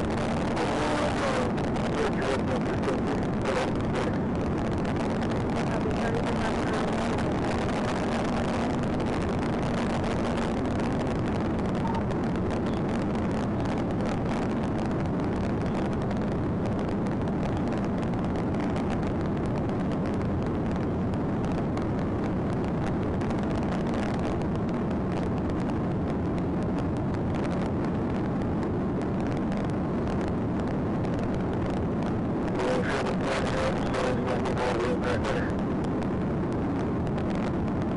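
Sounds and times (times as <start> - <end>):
engine tyre and wind drone: 0.0 - 37.9
faint steady hum: 0.0 - 37.9.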